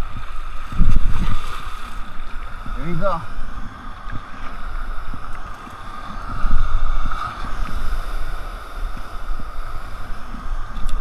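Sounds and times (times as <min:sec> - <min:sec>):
surf and water washing: 0:00.0 - 0:11.0
wind rumbling on microphone: 0:00.0 - 0:11.0.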